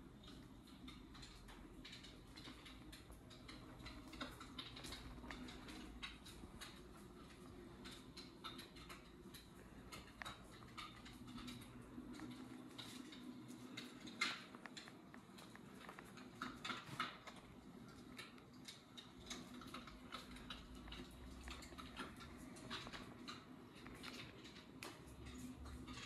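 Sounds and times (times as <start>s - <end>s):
faint room hum: 0.0s - 26.0s
light clicks and ticks: 0.0s - 26.0s.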